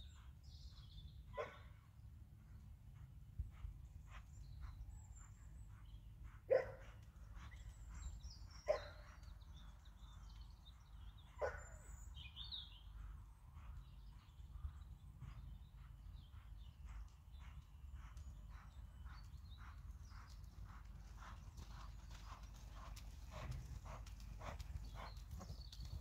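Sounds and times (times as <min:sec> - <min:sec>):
small birds chirping: 0:00.0 - 0:01.7, 0:03.5 - 0:26.0.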